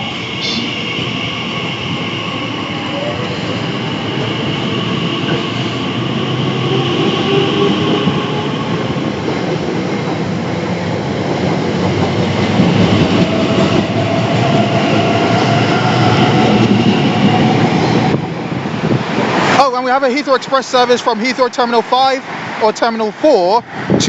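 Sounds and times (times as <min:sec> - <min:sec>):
train wheel and rail noise: 0:00.0 - 0:24.0.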